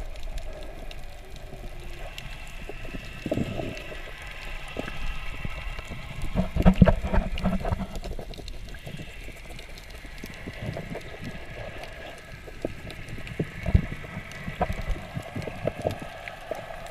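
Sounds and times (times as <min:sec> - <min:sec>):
faint steady whine: 0:00.0 - 0:16.9
underwater splashing and bubbling: 0:00.0 - 0:16.9.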